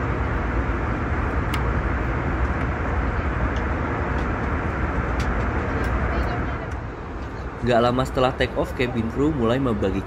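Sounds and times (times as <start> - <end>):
airplane cabin engine drone: 0.0 - 10.0.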